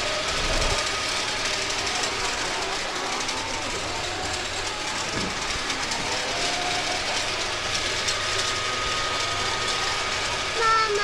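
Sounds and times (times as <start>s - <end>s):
steady mechanical din: 0.0s - 11.0s.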